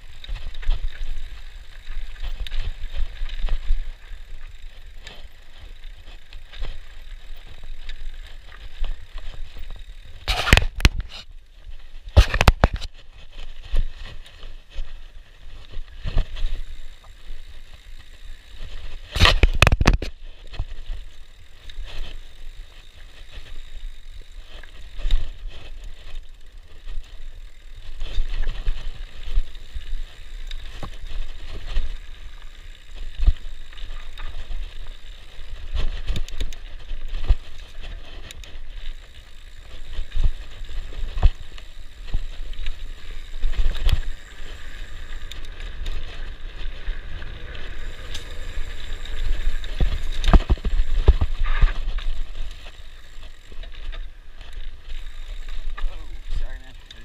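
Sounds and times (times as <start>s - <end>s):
bike clattering over roots: 0.0s - 57.0s
tyres rolling on dirt trail: 0.0s - 57.0s.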